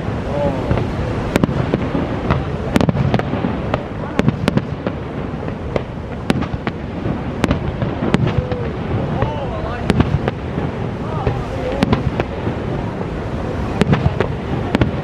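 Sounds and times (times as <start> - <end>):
fireworks bangs: 0.0 - 15.0
waterfall rushing: 0.0 - 15.0.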